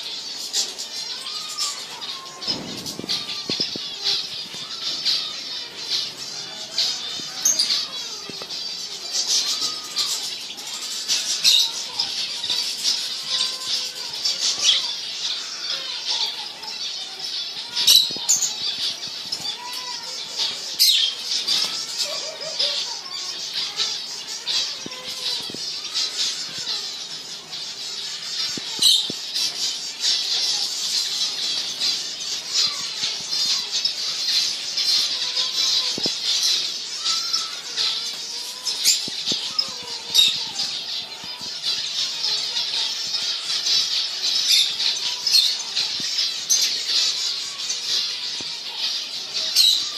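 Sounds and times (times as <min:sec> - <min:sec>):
finches chirping and twittering: 0:00.0 - 0:49.9.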